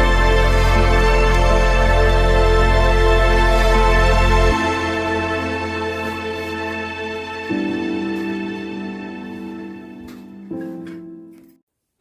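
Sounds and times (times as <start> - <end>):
slow music with held chords: 0.0 - 11.6.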